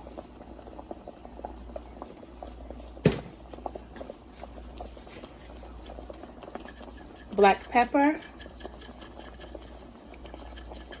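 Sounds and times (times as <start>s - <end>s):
tomato sauce simmering in a pot: 0.0s - 11.0s.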